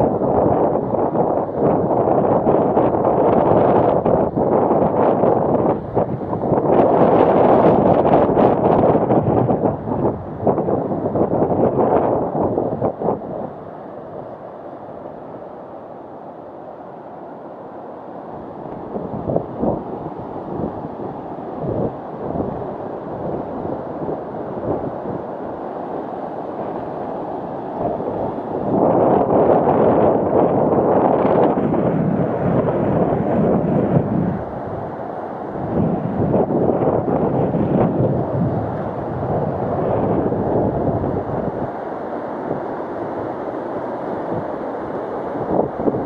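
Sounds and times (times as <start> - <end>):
wind buffeting microphone: 0.0 - 15.4, 18.4 - 46.0
sea surf: 0.0 - 46.0.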